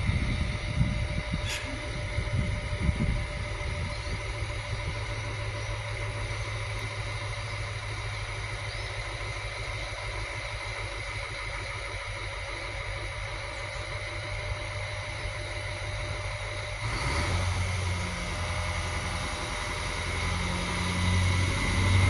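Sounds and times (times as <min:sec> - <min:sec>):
diesel railcar engine hum: 0:00.0 - 0:22.0
high constant whine: 0:00.0 - 0:22.0.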